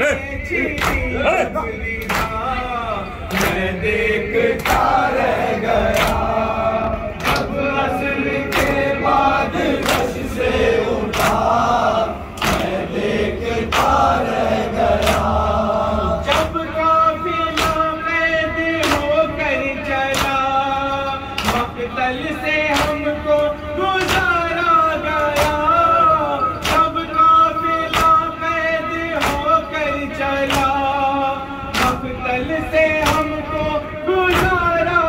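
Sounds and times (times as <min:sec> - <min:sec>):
group of men chanting: 0:00.0 - 0:33.5
man singing lament into microphone: 0:00.0 - 0:35.0.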